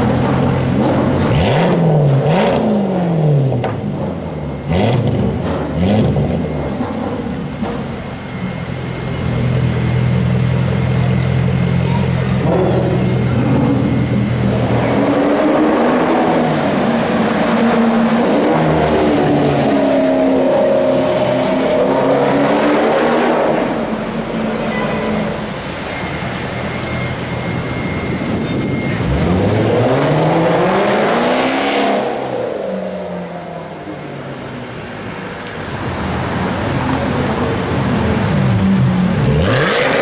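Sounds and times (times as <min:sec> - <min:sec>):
car engine revving: 0:00.0 - 0:25.8, 0:28.1 - 0:40.0.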